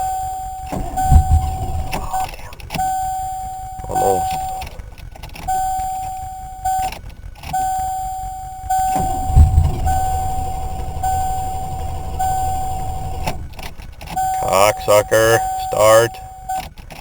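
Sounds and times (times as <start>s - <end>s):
high dashboard warning tone: 0.0s - 16.7s
engine starter cranking: 0.0s - 17.0s.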